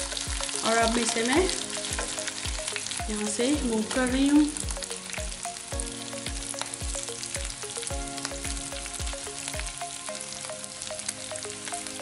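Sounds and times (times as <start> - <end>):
music with a steady beat: 0.0 - 10.0
oil sizzling in a grill pan: 0.0 - 12.0.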